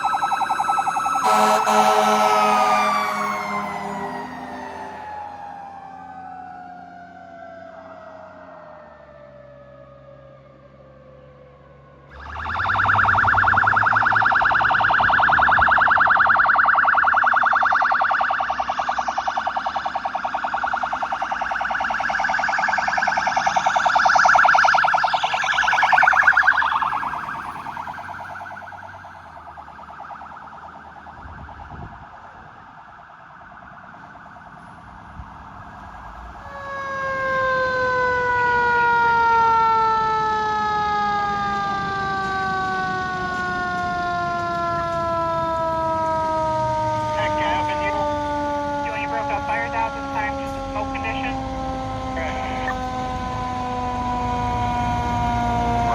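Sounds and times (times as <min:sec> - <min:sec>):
siren yelping: 0:00.0 - 0:09.4, 0:12.1 - 0:55.9
siren wailing: 0:00.0 - 0:55.9.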